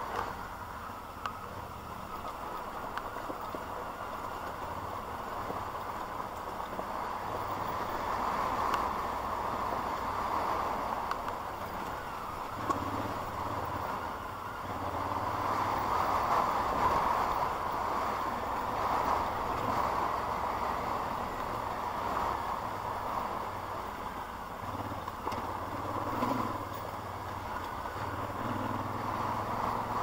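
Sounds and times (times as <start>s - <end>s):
tyre and road noise: 0.0s - 30.0s
vehicle engine drone: 0.0s - 30.0s.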